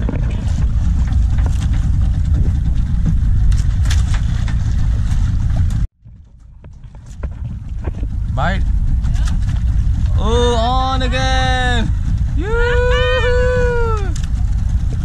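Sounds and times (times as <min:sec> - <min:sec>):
fishing boat engine rumble: 0:00.0 - 0:15.0.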